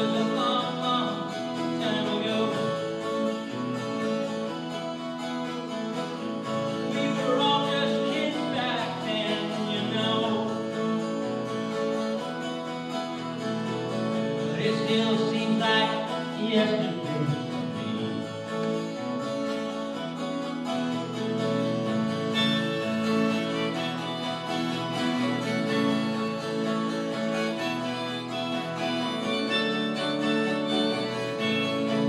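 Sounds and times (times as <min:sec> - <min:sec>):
acoustic guitar: 0:00.0 - 0:32.0
held band chords: 0:00.0 - 0:32.0.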